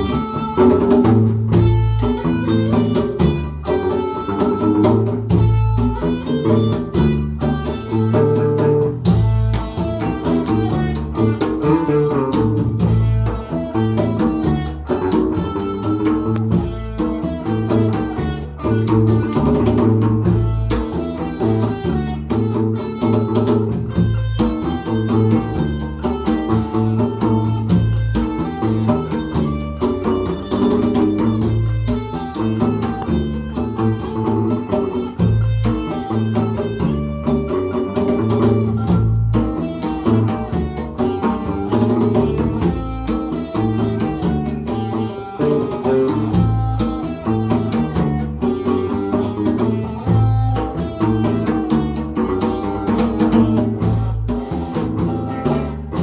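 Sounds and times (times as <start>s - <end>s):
bass guitar: 0.0s - 56.0s
guitar: 0.0s - 56.0s
hand drums: 0.0s - 56.0s.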